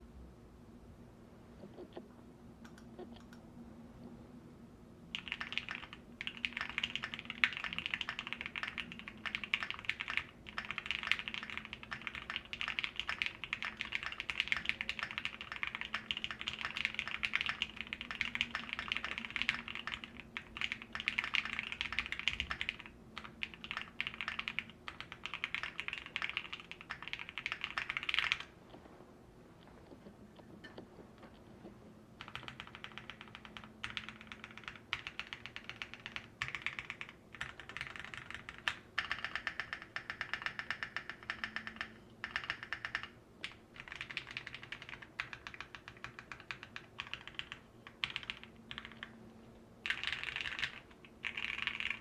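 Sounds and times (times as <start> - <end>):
mechanical keyboard typing: 5.1 - 28.5, 32.2 - 49.2, 49.8 - 52.0.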